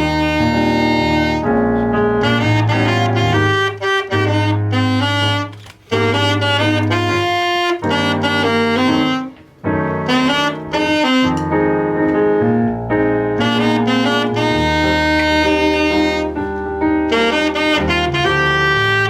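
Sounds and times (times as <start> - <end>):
bass: 0.0 - 19.0
piano: 0.0 - 19.0
saxophone lead: 0.0 - 19.0.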